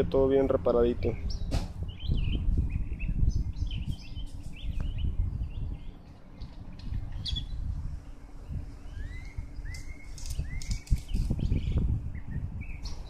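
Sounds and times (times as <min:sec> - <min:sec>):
low rumble: 0:00.0 - 0:13.0
small birds chirping: 0:01.0 - 0:13.0.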